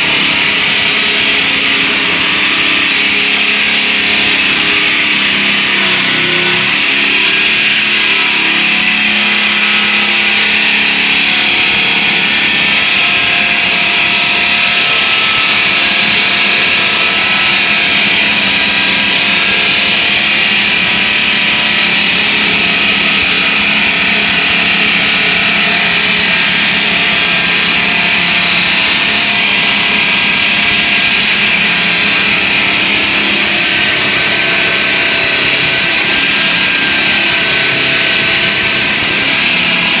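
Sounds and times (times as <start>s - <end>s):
circular saw cutting concrete: 0.0s - 40.0s.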